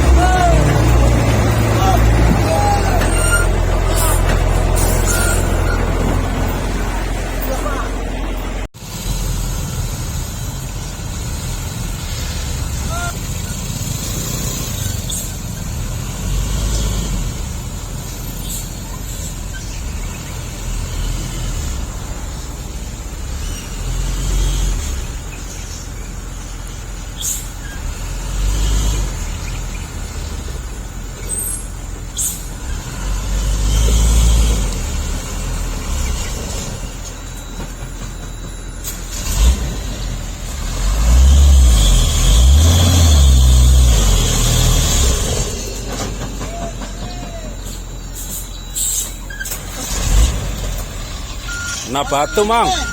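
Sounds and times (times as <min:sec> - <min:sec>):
truck engine rumbling under load: 0:00.0 - 0:52.9.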